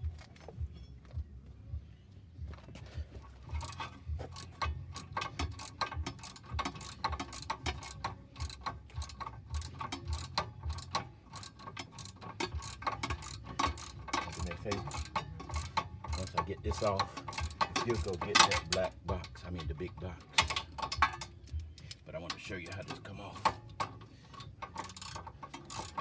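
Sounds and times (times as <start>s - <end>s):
socket ratchet clicking: 3.5s - 26.0s.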